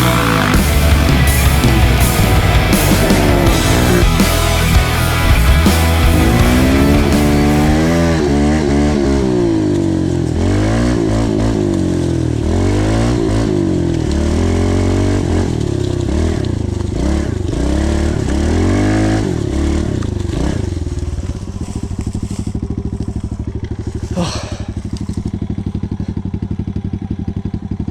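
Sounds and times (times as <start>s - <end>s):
pit bike engine revving: 0.0s - 27.9s.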